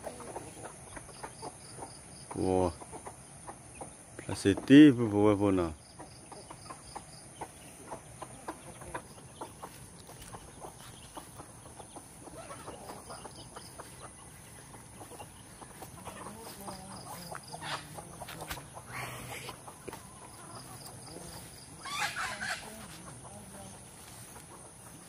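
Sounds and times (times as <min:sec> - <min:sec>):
chicken clucking: 0:00.0 - 0:25.0.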